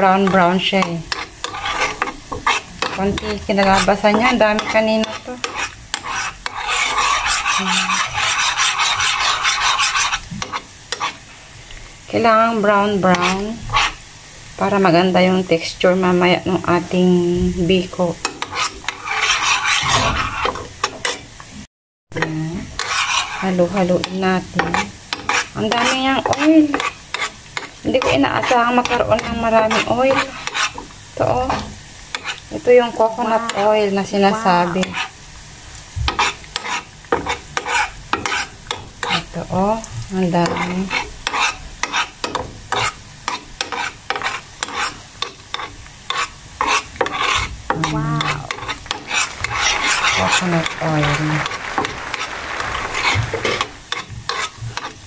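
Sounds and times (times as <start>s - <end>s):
spoon scraping a pan: 0.0s - 11.2s, 12.8s - 14.0s, 18.2s - 21.3s, 22.2s - 35.2s, 36.1s - 55.0s
food sizzling in oil: 0.0s - 55.0s.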